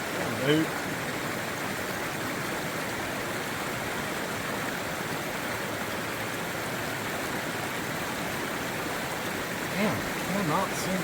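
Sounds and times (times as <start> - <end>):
river water flowing over rocks: 0.0 - 11.0.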